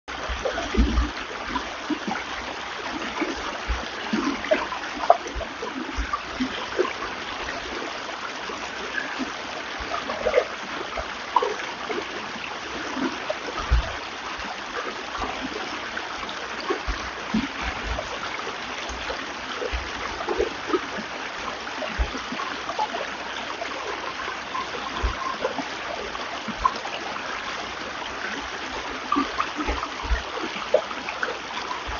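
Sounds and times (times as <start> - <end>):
stream flowing: 0.1 - 31.9
water gurgles and splashes: 0.1 - 31.9.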